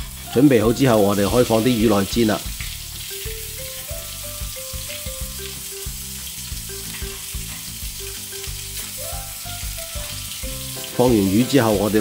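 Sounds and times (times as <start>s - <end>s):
fish sizzling in hot oil: 0.0s - 12.0s
light background music: 0.0s - 12.0s.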